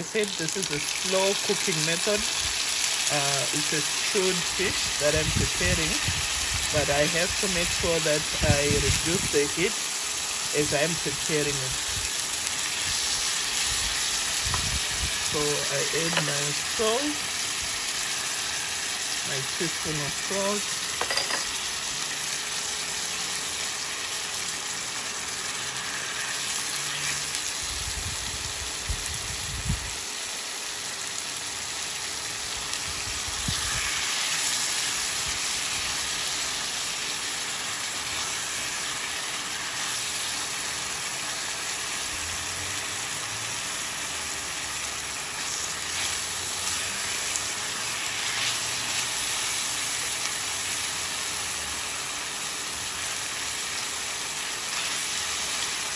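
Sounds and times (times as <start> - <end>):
onions sizzling in a pan: 0.0 - 55.9.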